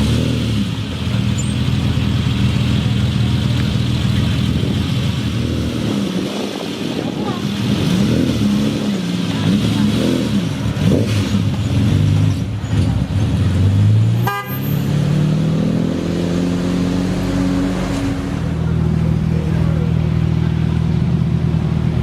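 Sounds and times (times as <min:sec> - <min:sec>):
sports car engine droning: 0:00.0 - 0:22.0.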